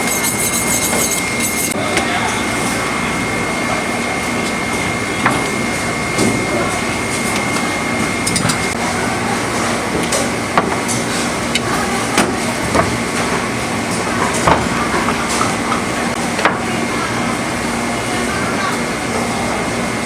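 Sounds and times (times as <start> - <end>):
steady background din: 0.0 - 18.5.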